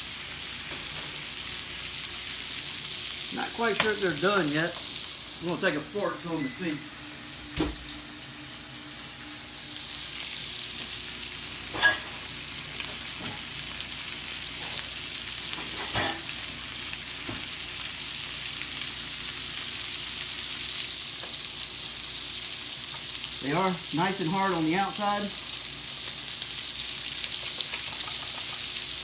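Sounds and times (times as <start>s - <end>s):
steak sizzling in a skillet: 0.0s - 29.0s.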